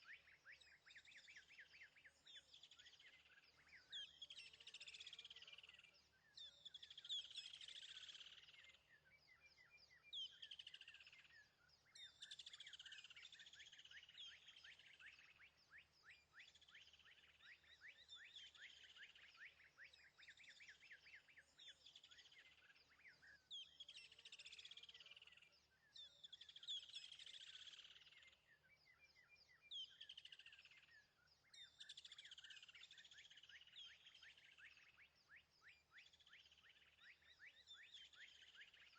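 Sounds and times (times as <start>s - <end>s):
faint birdsong chirps and trills: 0.0s - 38.9s.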